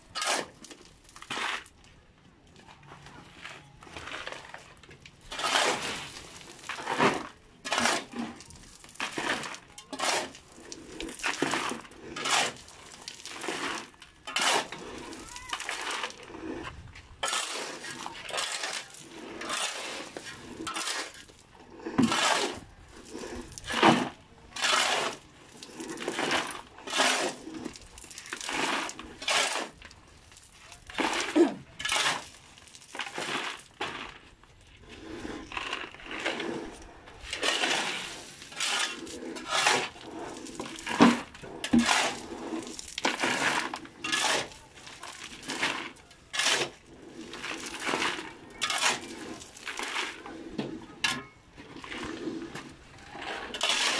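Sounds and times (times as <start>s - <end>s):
stones clattering into buckets: 0.0s - 2.2s, 3.3s - 53.9s
shovel scraping into gravel: 0.1s - 1.8s, 3.3s - 53.9s.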